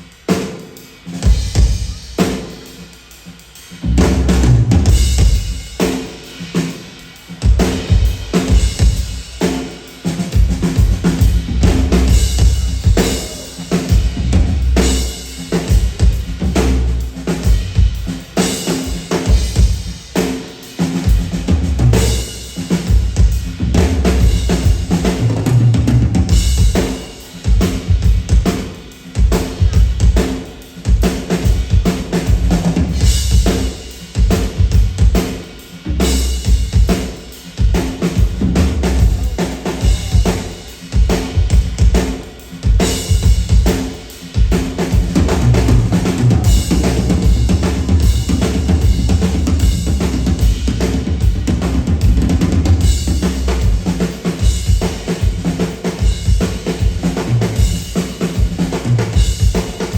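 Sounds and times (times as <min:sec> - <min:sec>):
heavy bass drum beats: 0:00.0 - 0:59.9.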